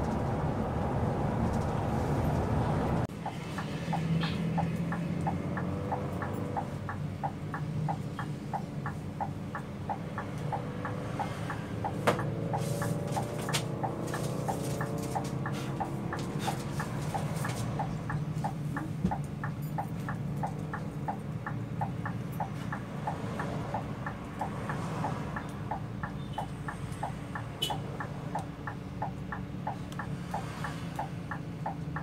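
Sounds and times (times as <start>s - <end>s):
coach engine drone: 0.0s - 26.0s.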